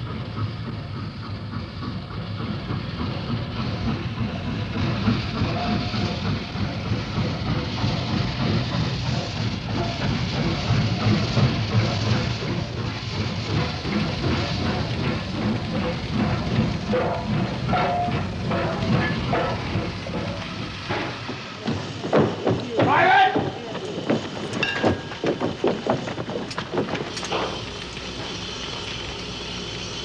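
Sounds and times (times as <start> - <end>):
steam train rumbling: 0.0 - 30.0
wheels clattering on track: 0.0 - 30.0.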